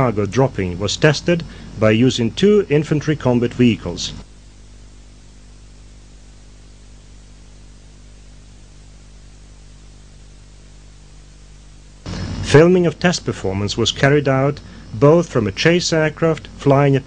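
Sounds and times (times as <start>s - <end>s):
low electrical hum: 0.0s - 17.0s
steady hiss: 0.0s - 17.0s.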